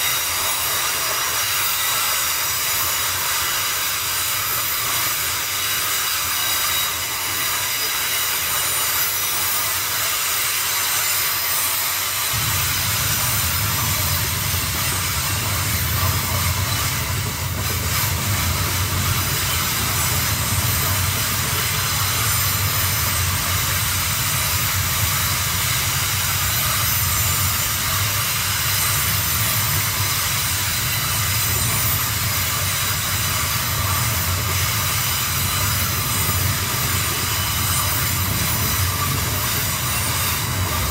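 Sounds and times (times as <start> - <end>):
train wagons rumbling past: 0.0 - 40.9.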